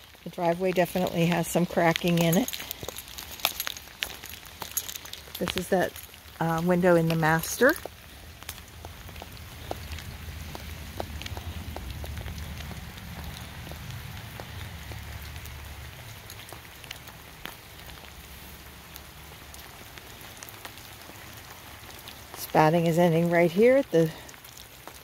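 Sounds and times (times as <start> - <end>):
light rain pattering: 0.0 - 25.0.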